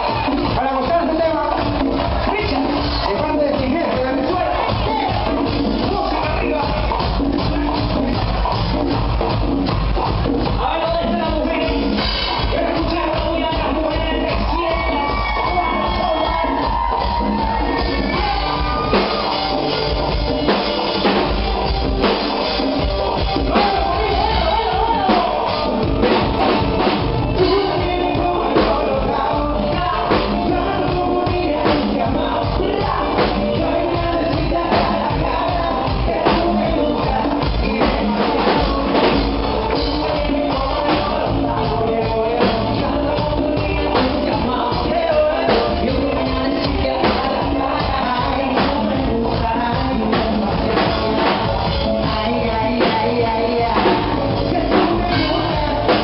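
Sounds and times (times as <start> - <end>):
drum kit playing: 0.0 - 56.0
rock music with singing: 0.0 - 56.0.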